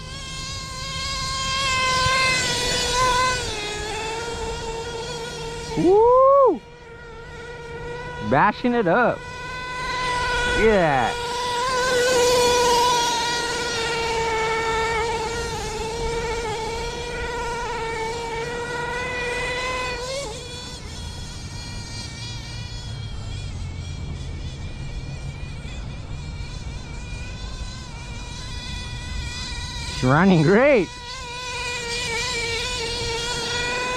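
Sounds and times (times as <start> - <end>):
model engine high-pitched whine: 0.0 - 33.9.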